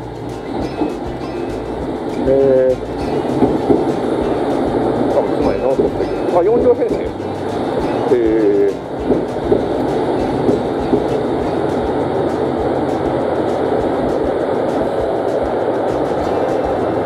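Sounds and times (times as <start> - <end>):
light clacks: 0.0 - 17.0
train engines and wheels rumbling: 0.0 - 17.0.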